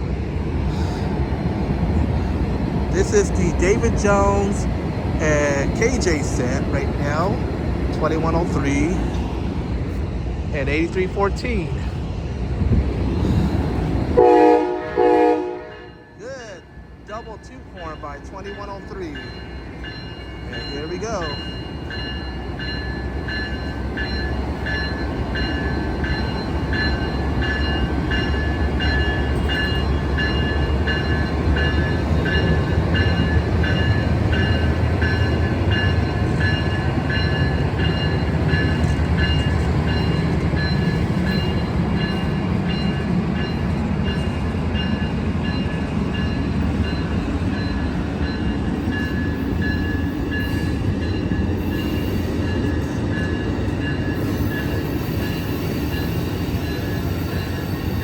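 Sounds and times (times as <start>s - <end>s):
train rumbling: 0.0s - 58.0s
train bell ringing: 2.9s - 9.0s, 15.7s - 58.0s.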